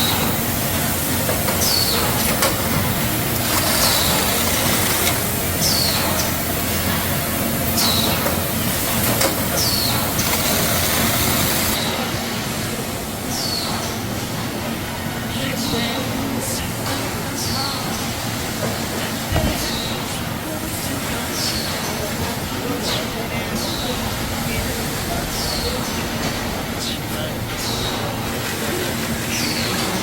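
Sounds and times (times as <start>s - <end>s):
machinery rolling rumble: 0.0s - 30.0s.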